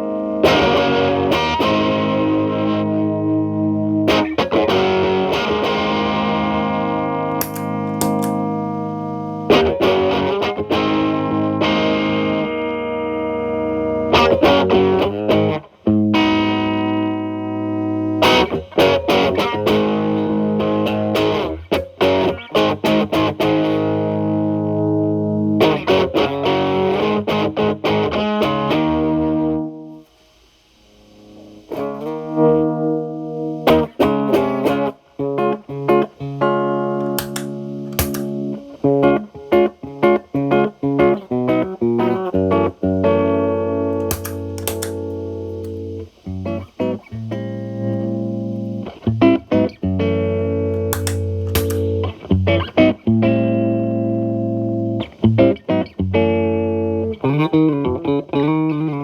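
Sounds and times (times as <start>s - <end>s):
distorted electric guitar: 0.0s - 29.9s, 31.1s - 59.0s
clean electric guitar: 0.0s - 30.0s, 31.2s - 59.0s.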